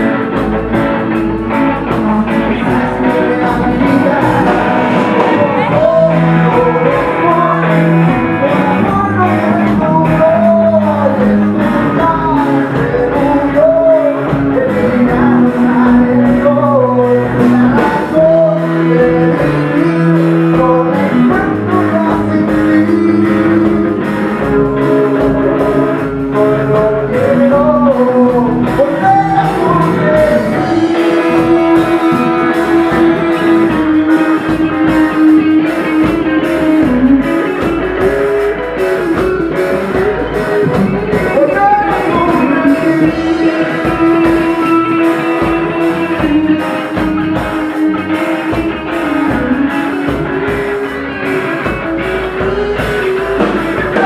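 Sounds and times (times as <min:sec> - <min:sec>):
drums: 0:00.0 - 0:54.0
electric guitars: 0:00.0 - 0:54.0
man singing: 0:00.0 - 0:54.0.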